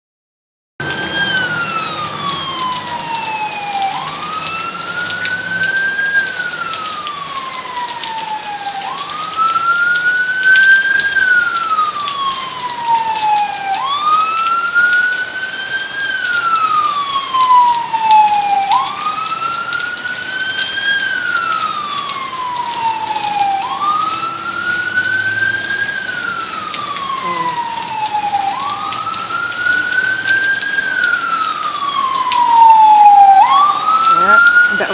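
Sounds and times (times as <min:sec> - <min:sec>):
rain and running water: 0:00.8 - 0:34.9
siren wailing: 0:00.8 - 0:34.9.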